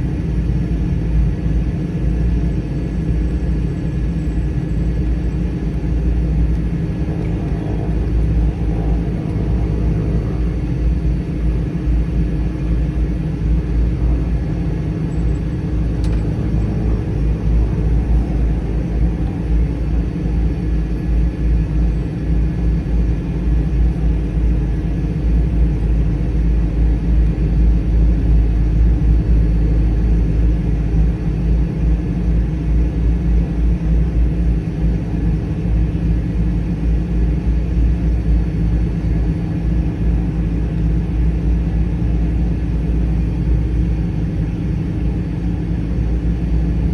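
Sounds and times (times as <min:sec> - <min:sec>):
turboprop engine running: 0:00.0 - 0:46.9.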